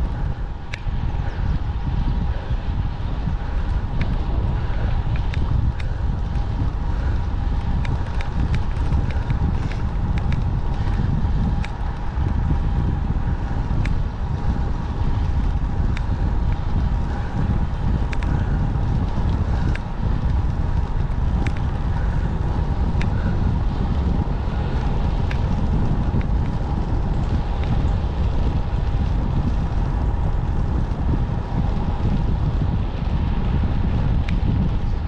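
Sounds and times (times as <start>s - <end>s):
constant hum: 0.0s - 35.0s
wind buffeting microphone: 0.0s - 35.0s.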